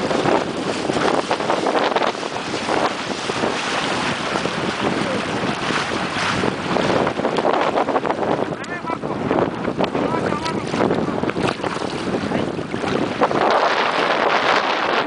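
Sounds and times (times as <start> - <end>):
water lapping and splashing: 0.0 - 15.0
wind buffeting microphone: 0.0 - 15.0.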